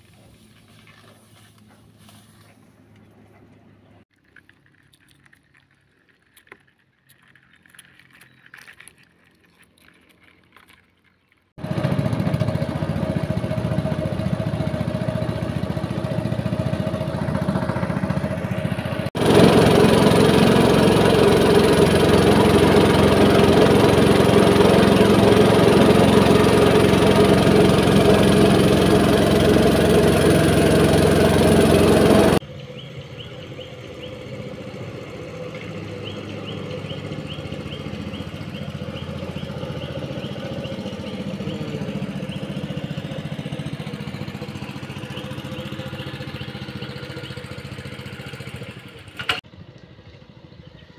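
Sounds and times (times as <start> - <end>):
small boat engine running: 4.7 - 50.5.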